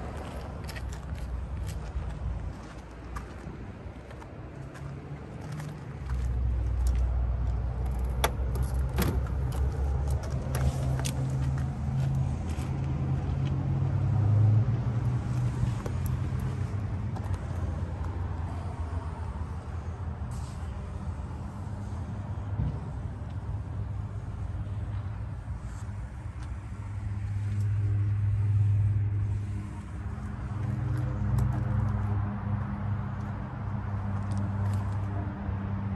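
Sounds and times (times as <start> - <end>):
vehicle engine humming: 0.0 - 35.9.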